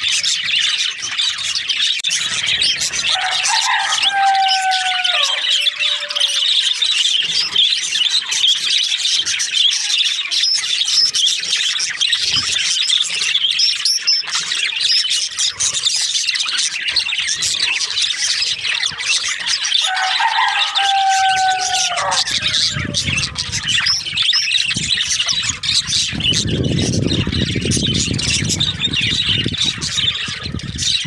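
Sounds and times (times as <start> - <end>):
bird squawks: 0.0 - 31.0
budgerigars chirping and chattering: 0.0 - 31.0.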